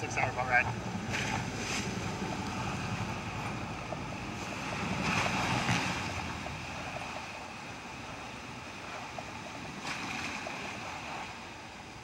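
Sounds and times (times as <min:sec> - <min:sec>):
boat engine low rumble: 0:00.0 - 0:12.0
churning water: 0:00.0 - 0:12.0
wind: 0:00.0 - 0:12.0.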